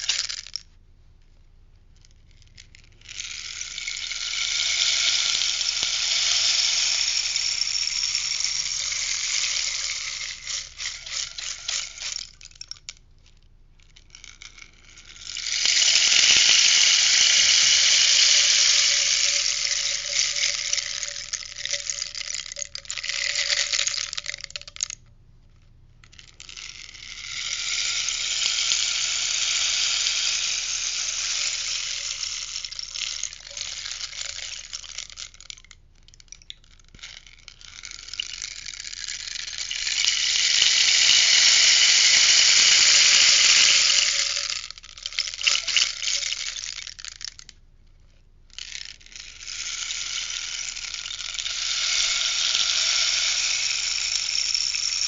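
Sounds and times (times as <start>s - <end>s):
rainstick pattering: 0.0s - 0.7s, 2.0s - 25.1s, 26.0s - 47.6s, 48.2s - 55.0s.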